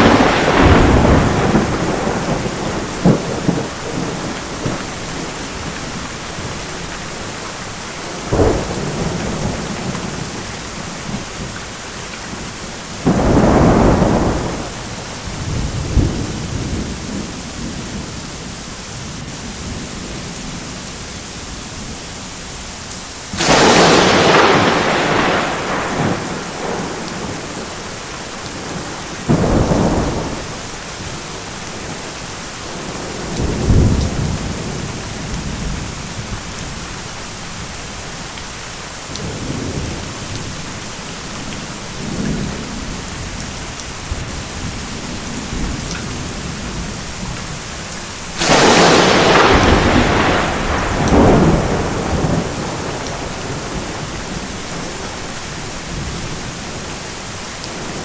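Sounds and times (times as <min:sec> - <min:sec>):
thunder claps and rumbling: 0:00.0 - 0:18.6, 0:23.3 - 0:38.4, 0:39.1 - 0:57.0
steady rain falling: 0:00.0 - 0:58.0.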